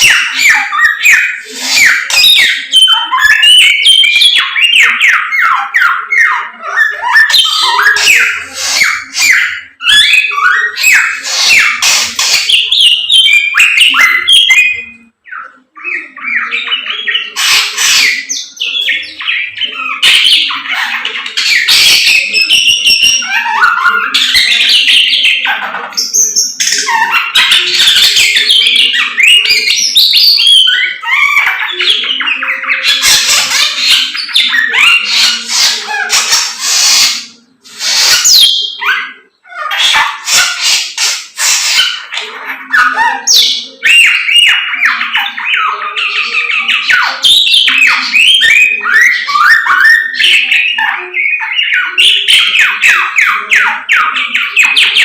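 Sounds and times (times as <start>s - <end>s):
songbird chirping and trilling: 0.0s - 55.0s.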